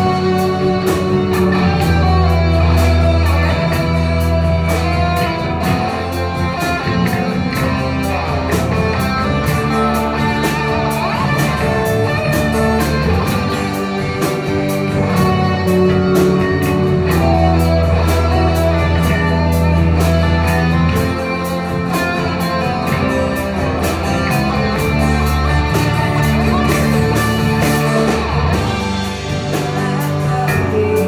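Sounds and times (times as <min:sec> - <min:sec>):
acoustic guitar: 0:00.0 - 0:31.0
bass guitar: 0:00.0 - 0:31.0
drums: 0:00.0 - 0:31.0
electric guitars: 0:00.0 - 0:31.0.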